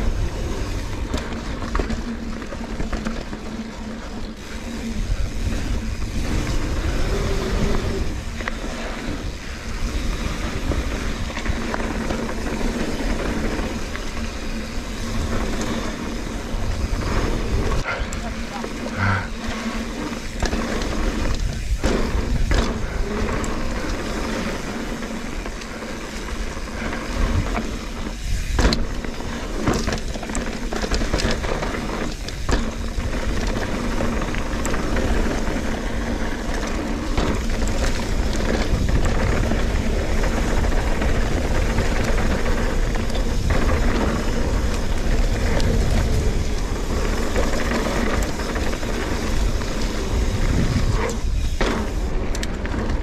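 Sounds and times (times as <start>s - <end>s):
bike rattling: 0.0s - 53.0s
bike tyre noise: 0.0s - 53.0s
wind rumbling on microphone: 0.0s - 53.0s.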